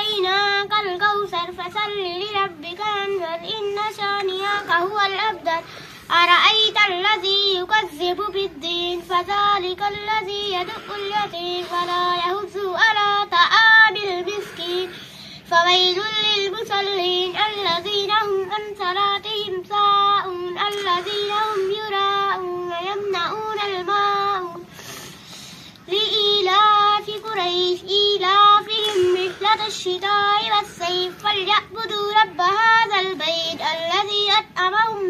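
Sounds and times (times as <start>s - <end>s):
girl chanting melodically: 0.0s - 35.0s.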